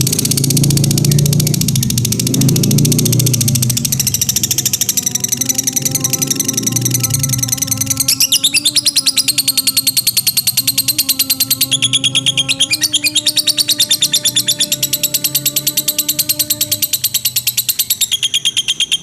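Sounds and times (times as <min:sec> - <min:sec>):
lovebird chattering: 0:00.0 - 0:19.0.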